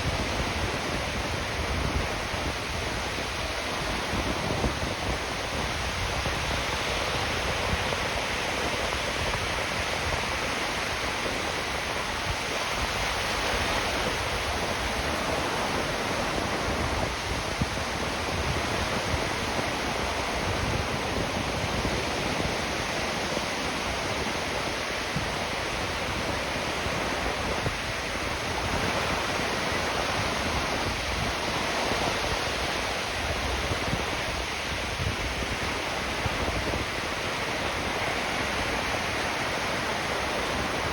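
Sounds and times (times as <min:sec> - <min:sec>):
ocean surf on beach: 0:00.0 - 0:40.9.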